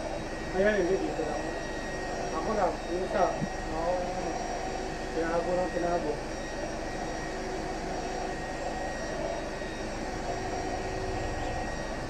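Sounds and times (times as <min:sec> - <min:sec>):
blower whooshing hum: 0:00.0 - 0:12.0.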